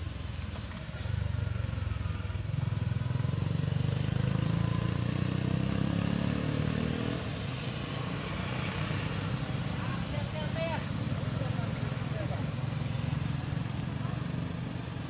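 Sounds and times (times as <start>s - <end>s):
vehicle engine passing: 0.8s - 15.0s.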